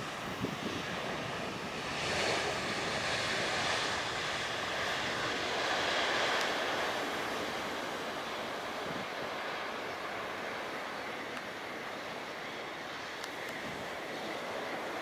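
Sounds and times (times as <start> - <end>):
jet engine noise during landing: 0.0 - 15.0.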